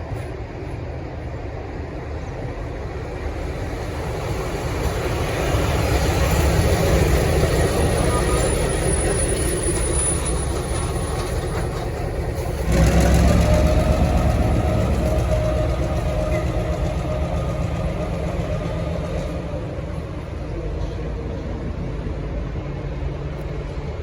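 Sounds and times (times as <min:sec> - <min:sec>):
diesel locomotive engine rumbling: 0:00.0 - 0:24.0.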